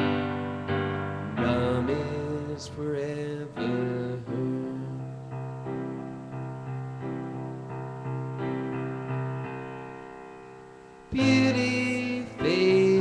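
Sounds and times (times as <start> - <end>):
piano playing repeated chords: 0.0 - 13.0.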